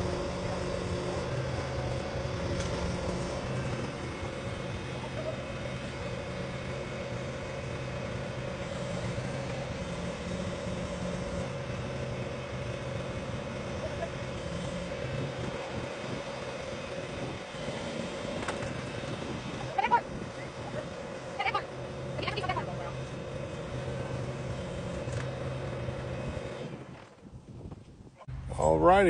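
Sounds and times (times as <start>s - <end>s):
heavy machinery engine droning: 0.0s - 27.6s, 28.2s - 29.0s.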